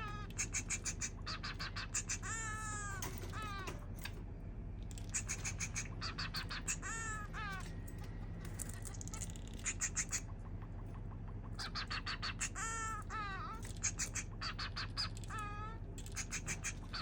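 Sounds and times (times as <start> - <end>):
finch singing: 0.0 - 4.1, 4.9 - 17.0.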